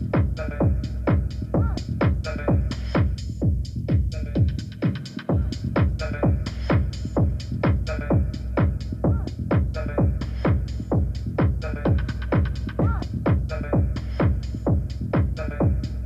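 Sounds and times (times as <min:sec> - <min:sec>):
techno music: 0:00.0 - 0:16.0.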